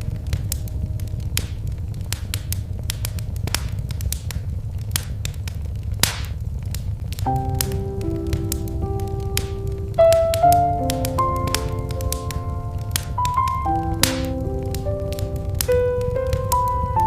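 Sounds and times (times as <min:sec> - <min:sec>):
soft piano music: 0:00.0 - 0:05.0, 0:07.2 - 0:17.0
low rumble: 0:00.0 - 0:16.9
wood fire crackling and popping: 0:00.0 - 0:17.0.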